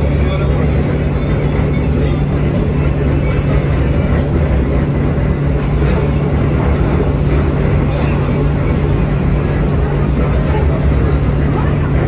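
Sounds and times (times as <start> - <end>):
constant low hum: 0.0 - 12.0
train wheels rumbling: 0.0 - 12.0.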